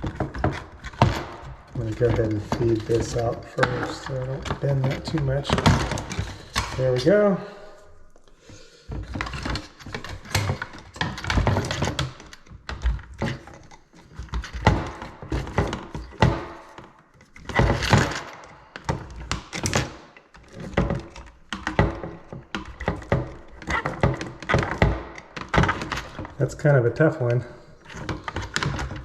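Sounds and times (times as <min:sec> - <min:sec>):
plastic parts knocking and clicking: 0:00.0 - 0:07.4, 0:08.9 - 0:29.0.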